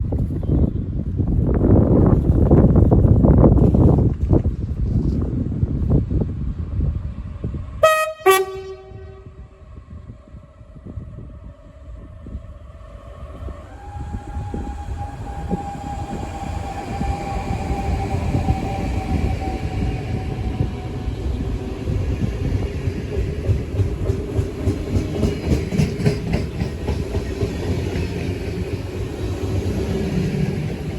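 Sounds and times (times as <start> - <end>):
steady train whine: 0.0 - 30.9.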